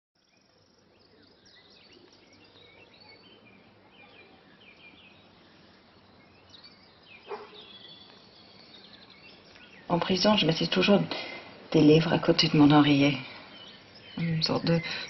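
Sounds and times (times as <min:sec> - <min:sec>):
small birds chirping: 0:00.2 - 0:15.0
steady background hush: 0:00.4 - 0:15.0.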